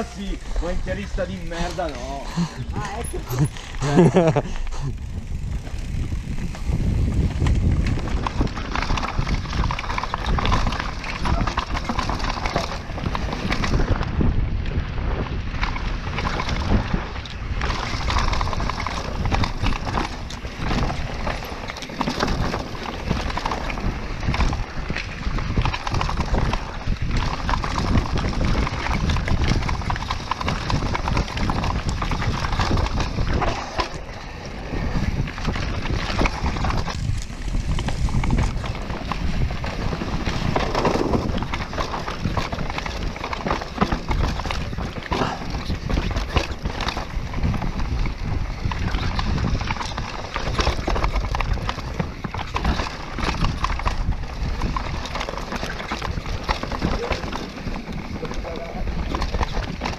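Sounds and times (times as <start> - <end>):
bike frame and chain clattering: 0.0 - 14.4, 15.1 - 59.9
wind noise on microphone: 0.0 - 59.9.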